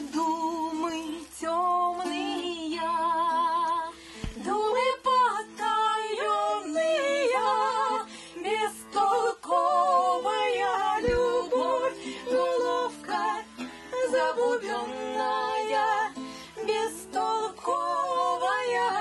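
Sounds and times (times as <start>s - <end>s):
acoustic guitar: 0.0s - 19.0s
woman singing with vibrato: 0.0s - 19.0s.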